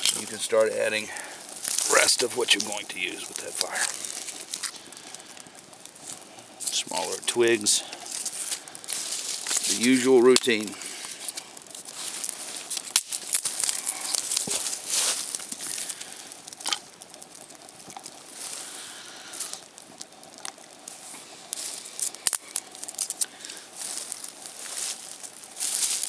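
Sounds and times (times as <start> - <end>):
twigs cracking: 0.0 - 26.0
twigs rustling and crinkling: 0.0 - 26.0.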